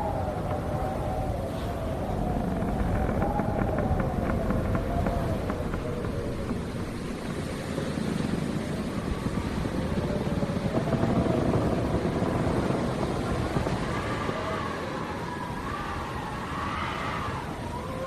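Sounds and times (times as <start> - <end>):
wind howling: 0.0 - 18.0.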